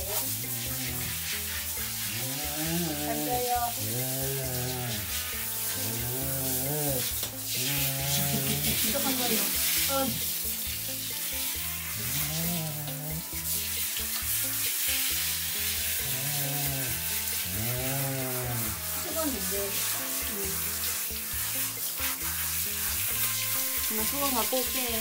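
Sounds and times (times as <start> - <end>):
background music: 0.0 - 25.0
shower spraying water: 0.0 - 25.0.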